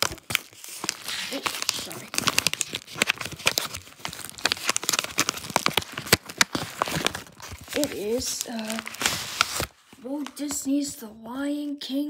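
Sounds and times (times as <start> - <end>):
packaging being torn open: 0.0 - 10.6.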